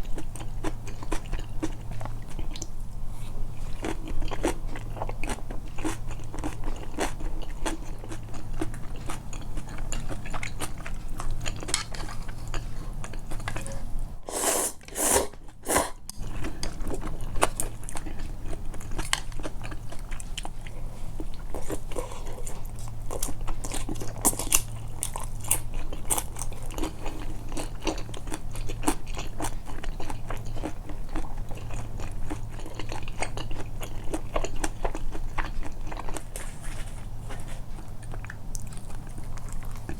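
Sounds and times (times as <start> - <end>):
close chewing and mouth clicks: 0.0 - 13.8, 15.3 - 39.9
low steady hum: 0.0 - 39.9.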